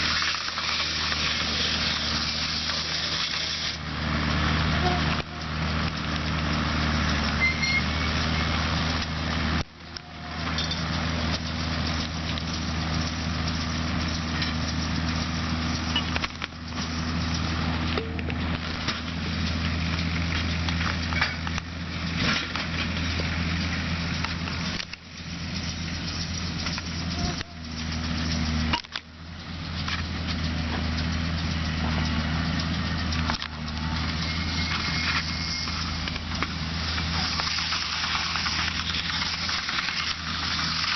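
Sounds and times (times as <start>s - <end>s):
rushing crackling noise: 0.0s - 40.9s
tractor engine running: 0.0s - 40.9s.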